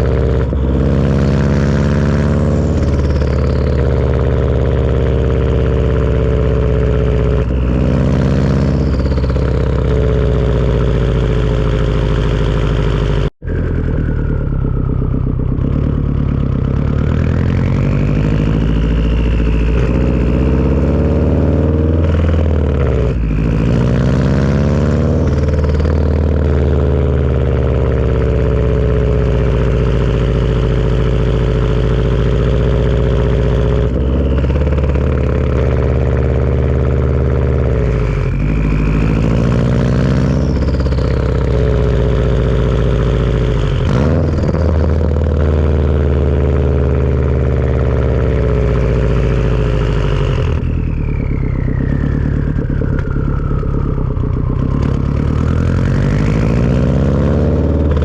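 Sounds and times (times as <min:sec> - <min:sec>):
turbocharged car engine exhaust note: 0:00.0 - 0:58.0
turbo whistle: 0:02.2 - 0:24.2, 0:25.0 - 0:45.1, 0:47.2 - 0:56.9.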